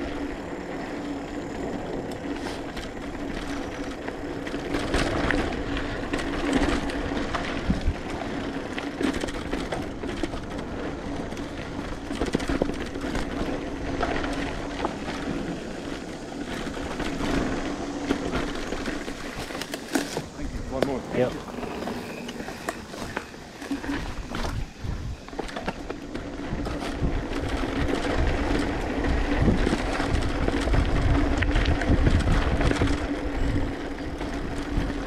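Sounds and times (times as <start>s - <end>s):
bike rattling over bumps: 0.0s - 35.0s
bike rolling on dirt trail: 0.0s - 35.0s.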